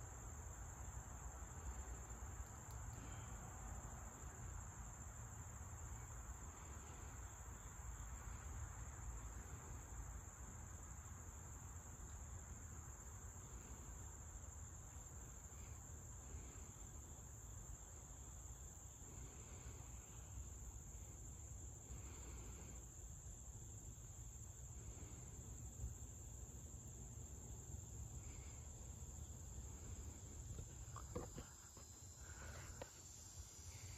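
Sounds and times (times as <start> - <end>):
insect chorus drone: 0.0 - 33.9.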